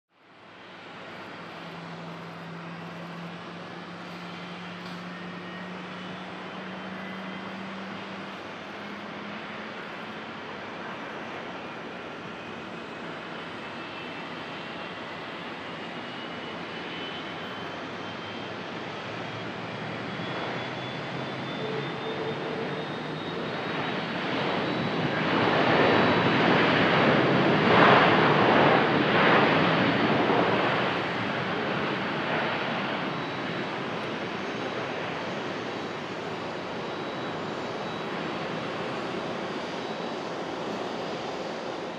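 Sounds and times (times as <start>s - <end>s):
jet engines whining: 0.2s - 41.9s.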